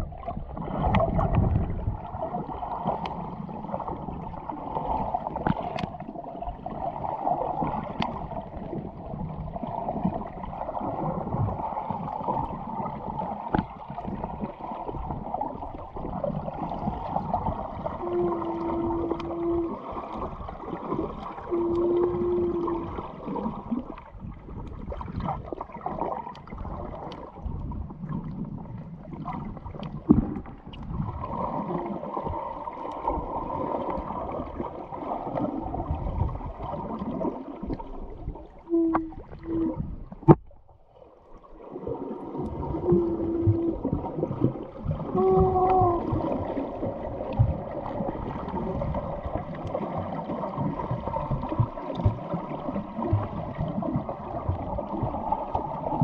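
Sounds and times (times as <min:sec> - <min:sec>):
underwater sloshing and gurgling: 0:00.0 - 0:56.0.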